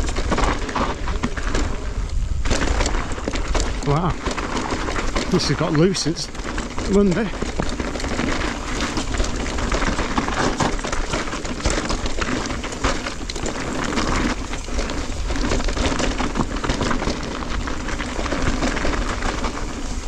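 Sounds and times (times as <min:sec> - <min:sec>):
bike rattling clicks: 0:00.0 - 0:20.0
tyres crunching over dirt: 0:00.0 - 0:20.0.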